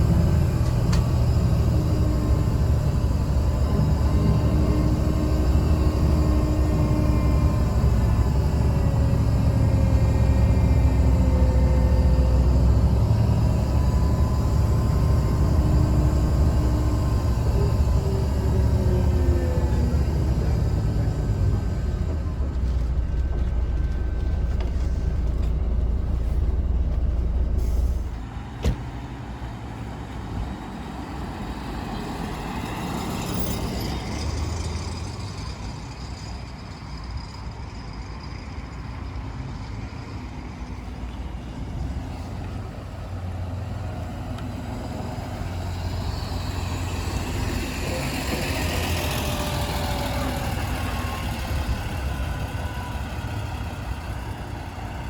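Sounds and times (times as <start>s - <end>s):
bus engine drone: 0.0s - 55.0s.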